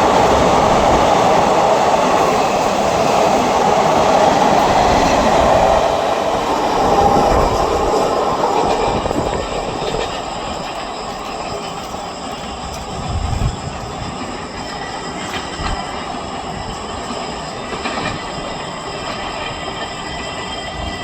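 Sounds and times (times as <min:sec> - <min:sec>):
train passing rumble and rattle: 0:00.0 - 0:21.0.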